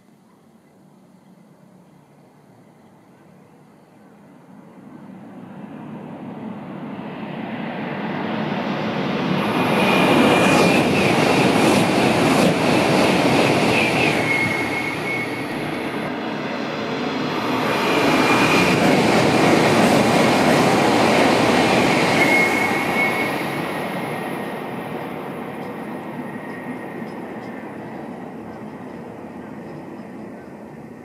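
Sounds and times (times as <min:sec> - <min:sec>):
high-speed train rushing past: 0:03.2 - 0:31.0.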